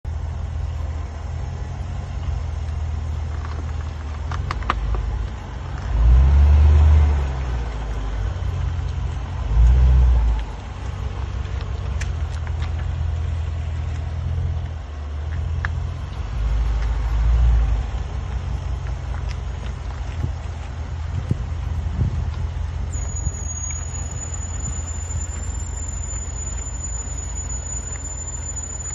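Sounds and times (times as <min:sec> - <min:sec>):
car engine rumbling: 0:00.0 - 0:28.9.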